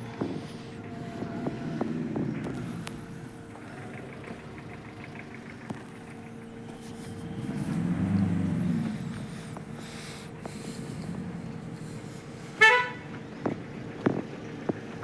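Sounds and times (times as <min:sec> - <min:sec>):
lower pitched engine sound: 0:00.0 - 0:15.0
tractor diesel engine idling: 0:00.0 - 0:15.0.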